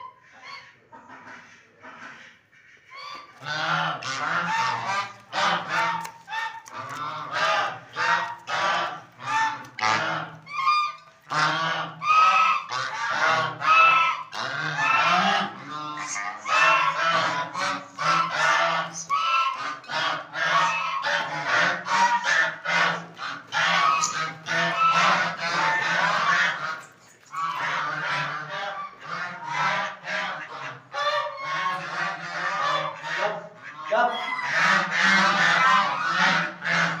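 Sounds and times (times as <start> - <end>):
fowl honking calls: 0.0 - 37.0.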